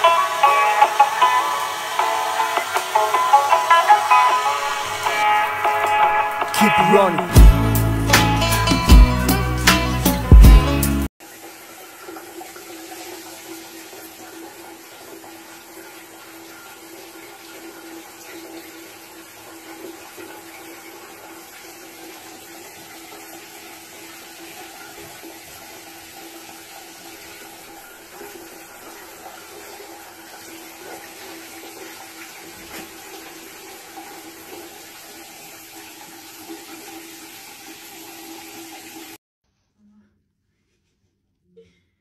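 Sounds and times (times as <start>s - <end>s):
shower water on tiled floor: 0.0s - 6.0s, 11.2s - 39.2s.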